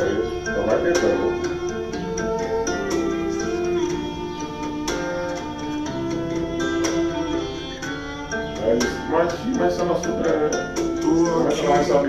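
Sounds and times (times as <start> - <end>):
instrumental music with plucked strings: 0.0 - 12.0.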